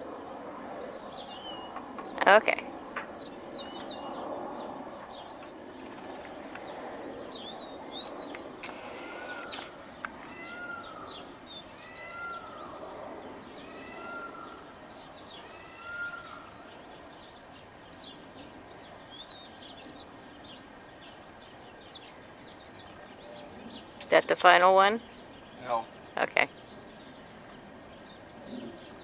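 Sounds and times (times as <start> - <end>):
birds calling: 0.0 - 29.0
outdoor background noise: 0.0 - 29.0.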